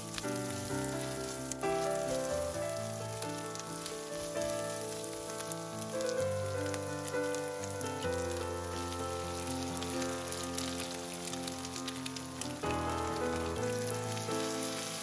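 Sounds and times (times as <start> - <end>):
background music: 0.0 - 15.0
food sizzling in oil: 0.0 - 15.0.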